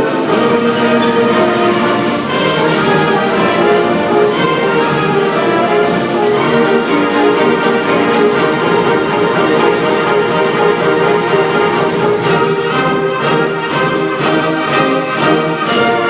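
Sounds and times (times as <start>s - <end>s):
orchestral brass chords: 0.0s - 16.0s.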